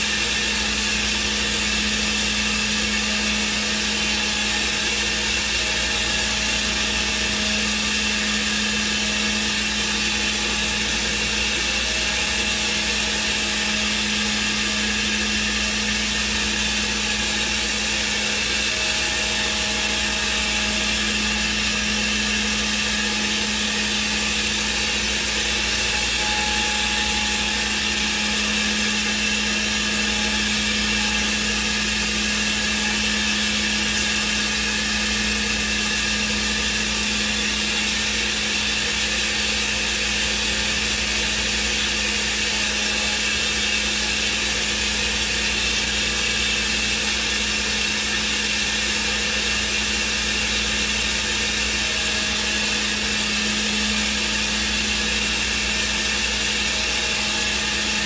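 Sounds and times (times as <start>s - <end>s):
cnc router humming: 0.0s - 58.0s
router spindle whine: 0.0s - 58.0s.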